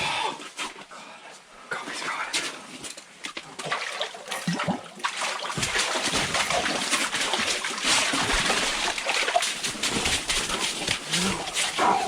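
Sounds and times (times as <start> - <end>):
water splashing and sloshing: 1.9 - 12.0.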